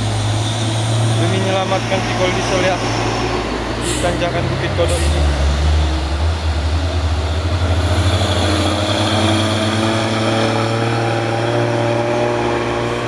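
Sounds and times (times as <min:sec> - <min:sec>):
heavy truck diesel engine: 0:00.0 - 0:13.0.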